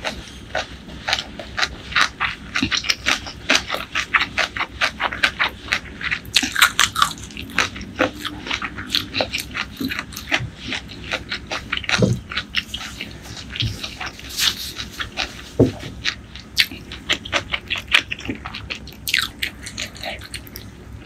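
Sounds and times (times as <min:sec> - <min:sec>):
person chewing with wet mouth sounds: 0:00.0 - 0:21.0.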